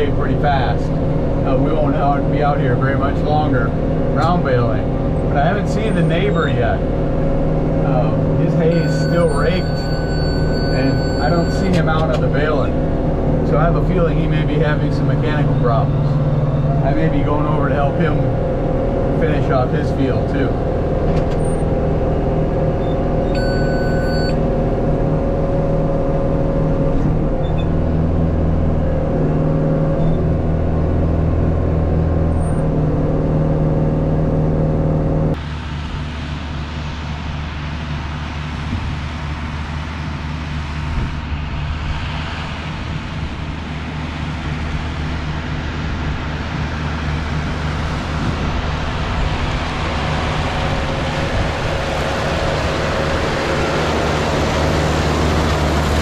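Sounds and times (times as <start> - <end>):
round baler running: 0.0 - 32.3, 35.3 - 56.0
tractor diesel engine running: 0.0 - 56.0.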